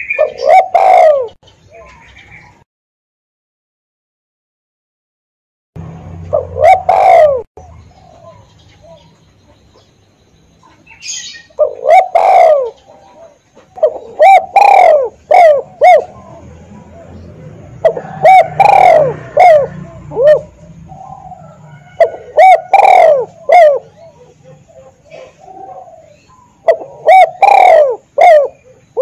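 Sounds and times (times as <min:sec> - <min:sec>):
dove cooing: 0:00.0 - 0:02.6, 0:06.2 - 0:09.9, 0:10.6 - 0:29.0.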